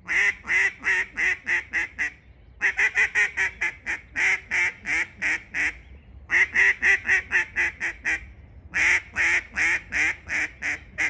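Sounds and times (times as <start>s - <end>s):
duck call quacks: 0.0s - 8.2s, 8.8s - 11.0s.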